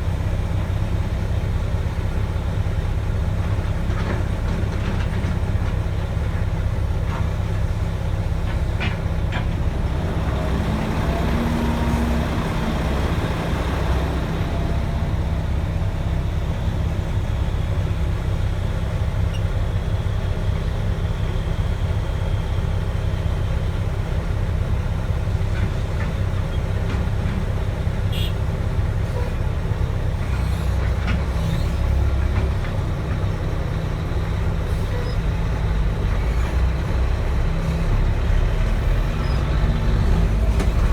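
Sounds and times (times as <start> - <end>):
diesel truck engine droning: 0.0 - 40.9.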